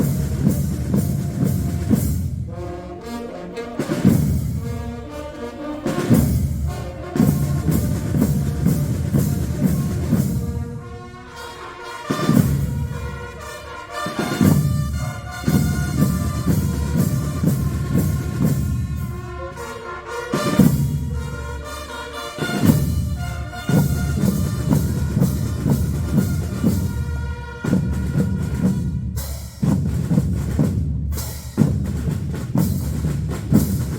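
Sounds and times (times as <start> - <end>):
brass band playing a fanfare: 0.0 - 29.2.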